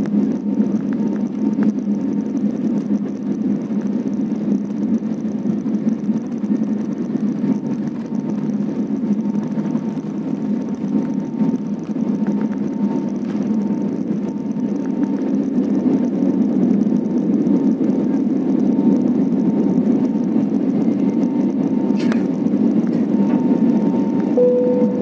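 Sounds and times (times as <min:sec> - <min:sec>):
faint high engine whine: 0:00.0 - 0:25.0
jet engines rushing: 0:00.0 - 0:25.0.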